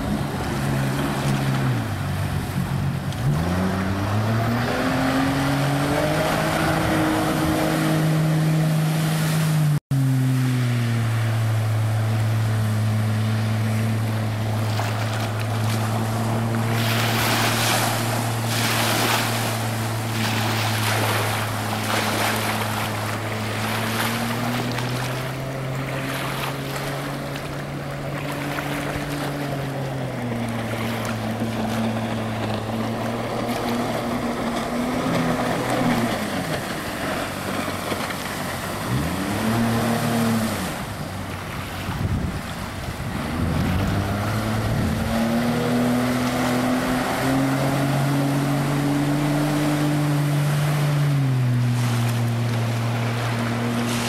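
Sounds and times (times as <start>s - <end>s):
jet boat engine drone: 0.0s - 54.0s
water rushing and spraying: 0.0s - 54.0s.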